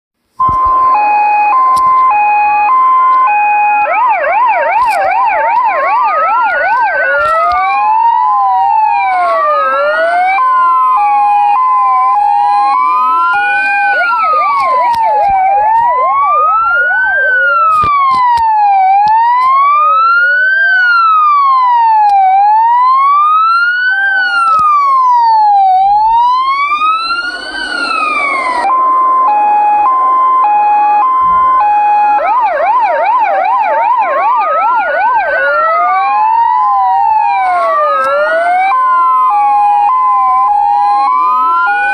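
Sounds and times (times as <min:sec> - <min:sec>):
police siren cycling tones: 0:00.4 - 0:41.9
second siren sweeping: 0:00.4 - 0:41.9.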